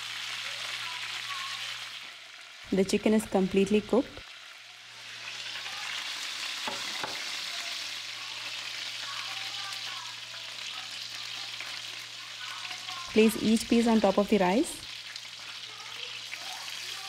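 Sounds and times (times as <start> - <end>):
oil sizzling in a pan: 0.0 - 17.0.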